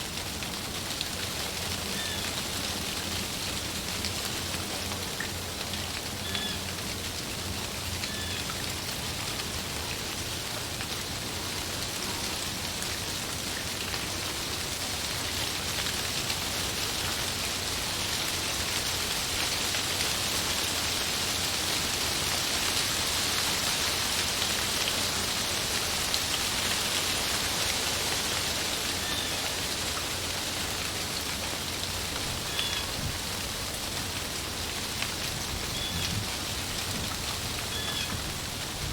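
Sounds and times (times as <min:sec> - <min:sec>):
wind rustling tree leaves: 0:00.0 - 0:38.9.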